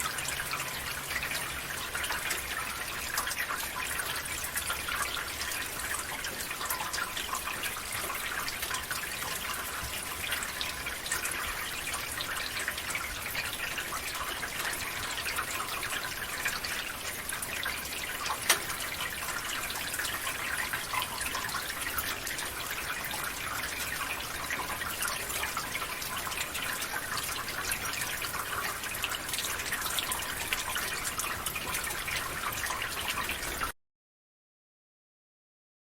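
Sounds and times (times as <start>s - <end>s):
rainwater trickling through gutter: 0.0s - 33.8s
water drips: 0.0s - 33.8s.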